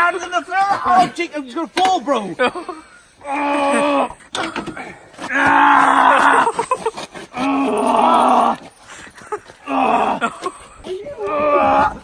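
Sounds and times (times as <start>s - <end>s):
men groaning with strain: 2.3s - 12.0s.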